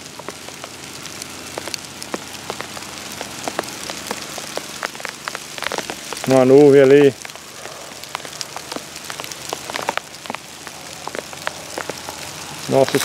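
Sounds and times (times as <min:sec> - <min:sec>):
light rain on dry leaves: 0:00.0 - 0:13.0.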